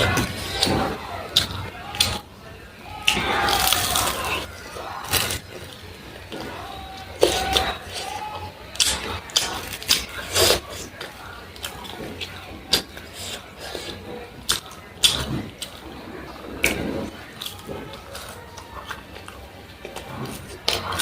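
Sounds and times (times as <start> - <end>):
person chewing with crunches: 3.0 - 21.0.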